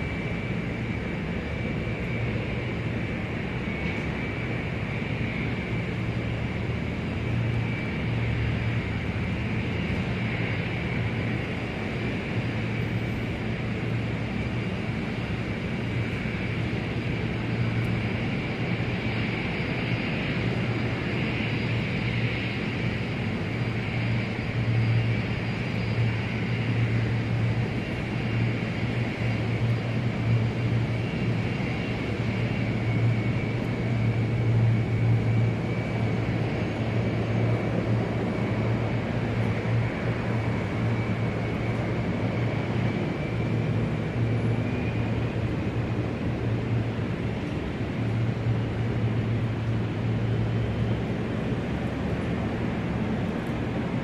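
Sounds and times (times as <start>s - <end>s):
aircraft engines running: 0.0s - 54.0s.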